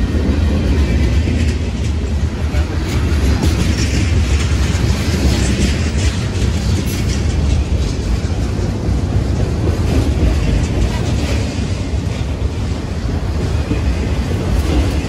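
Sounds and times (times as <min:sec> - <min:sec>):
train wheels rumbling and rattling on rail: 0:00.0 - 0:15.0.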